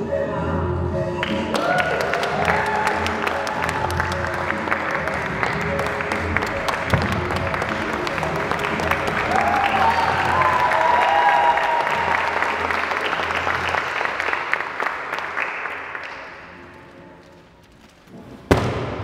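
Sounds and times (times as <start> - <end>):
audience applauding: 1.2 - 16.6.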